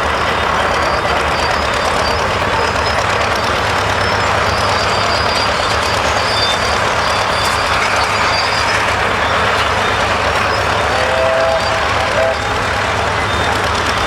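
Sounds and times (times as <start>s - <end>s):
steam engine running: 0.0s - 14.0s.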